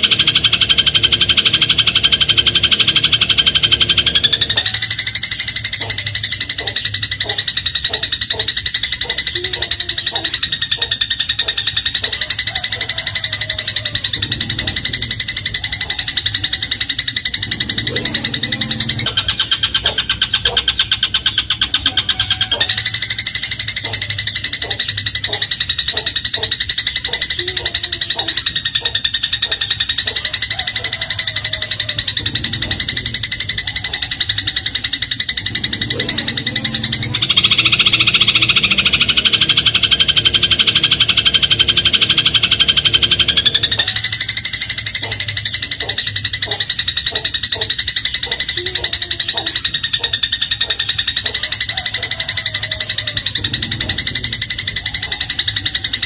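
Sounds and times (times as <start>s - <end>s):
sparrow chattering trill: 0.0s - 56.0s.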